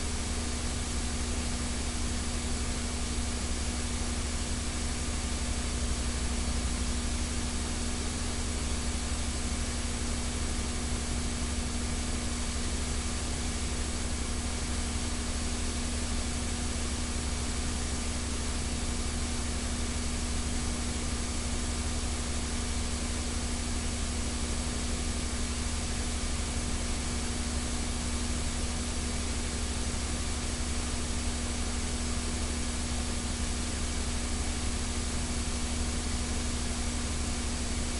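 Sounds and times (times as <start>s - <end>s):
electrical hum: 0.0s - 37.9s.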